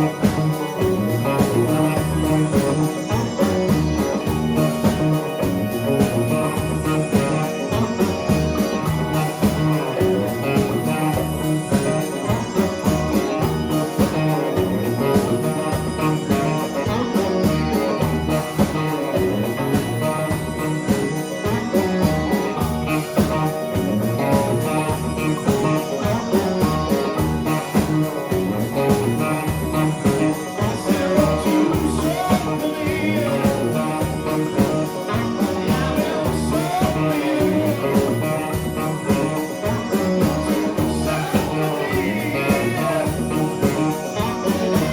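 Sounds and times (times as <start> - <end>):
drums: 0.0 - 44.9
electric guitar: 0.0 - 44.9
person singing: 0.0 - 44.9.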